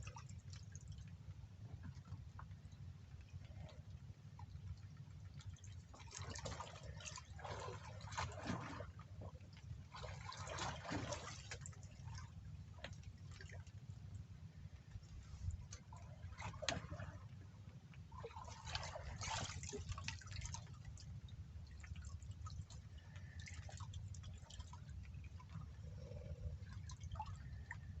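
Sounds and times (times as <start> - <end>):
steady low rumble: 0.0 - 10.3, 11.5 - 28.0.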